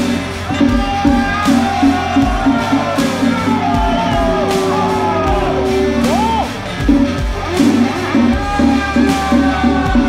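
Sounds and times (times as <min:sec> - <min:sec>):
music with quick beat: 0:00.0 - 0:10.0.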